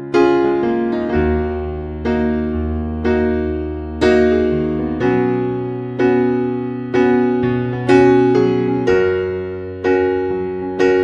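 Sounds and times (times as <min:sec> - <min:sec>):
electric piano chords: 0:00.0 - 0:11.0.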